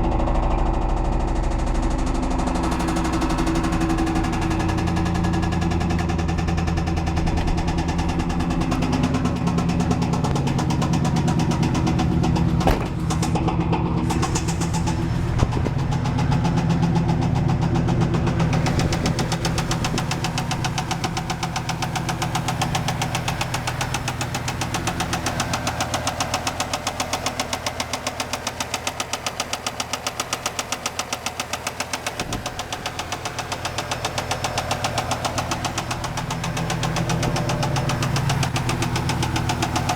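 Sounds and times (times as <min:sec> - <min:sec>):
car engine running: 0:00.0 - 0:39.9
rapid engine knocking: 0:00.0 - 0:39.9.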